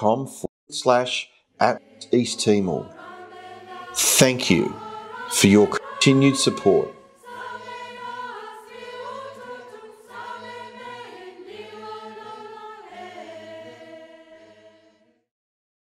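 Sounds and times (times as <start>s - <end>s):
choir singing held chords: 1.6s - 15.2s.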